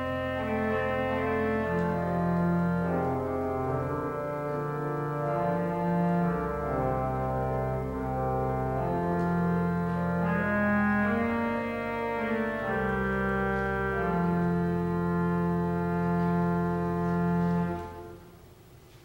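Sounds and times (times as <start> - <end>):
pipe organ chords: 0.0 - 18.9.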